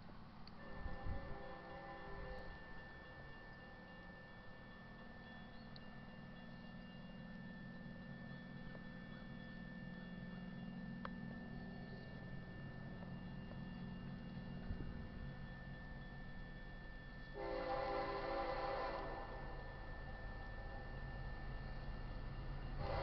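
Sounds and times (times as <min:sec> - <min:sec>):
low hum: 0:00.0 - 0:23.0
crossing warning bell ringing: 0:00.5 - 0:23.0.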